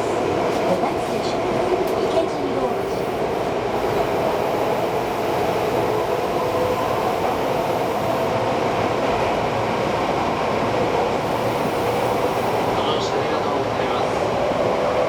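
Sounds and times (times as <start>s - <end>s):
subway train wheels rumbling on rail: 0.0s - 15.0s.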